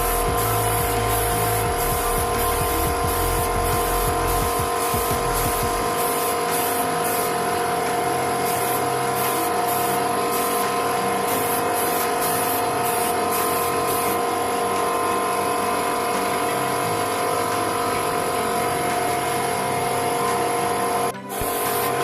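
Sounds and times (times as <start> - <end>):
air compressor whine and hiss: 0.0 - 22.0.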